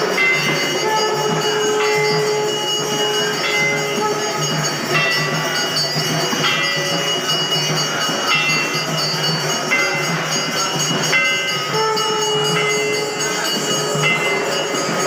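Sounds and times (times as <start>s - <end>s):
bells and percussion clanging: 0.0s - 15.0s.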